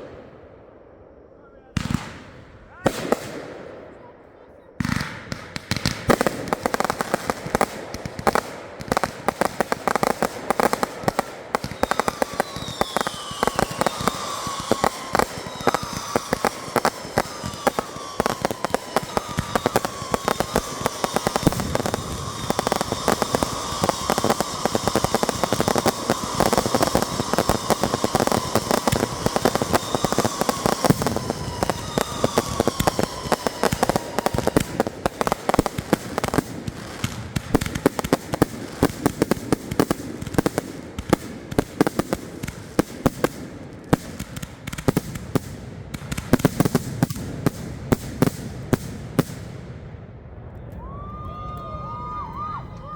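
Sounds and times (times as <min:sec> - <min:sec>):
fireworks cracking and banging: 0:01.7 - 0:52.9
fireworks whistling: 0:04.8 - 0:49.6.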